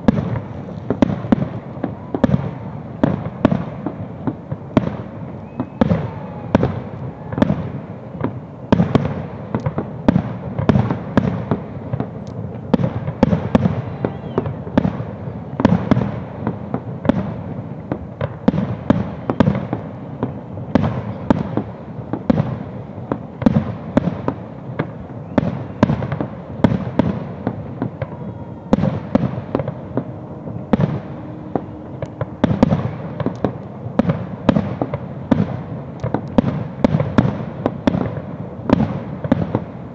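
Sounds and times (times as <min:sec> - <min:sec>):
fireworks booming: 0:00.0 - 0:39.9.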